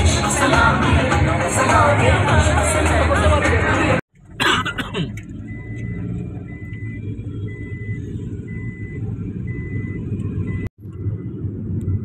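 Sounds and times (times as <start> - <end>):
low rumble of car on road: 0.0 - 12.0.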